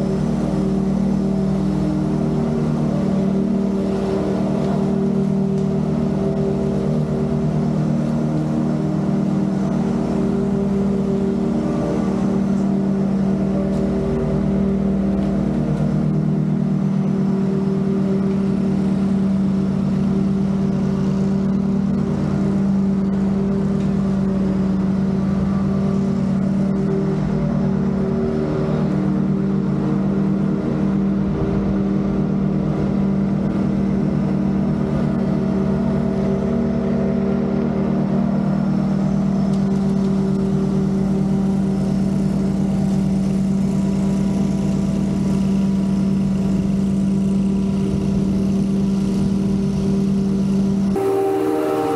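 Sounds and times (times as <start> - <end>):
lawn mower engine running: 0.0 - 51.9.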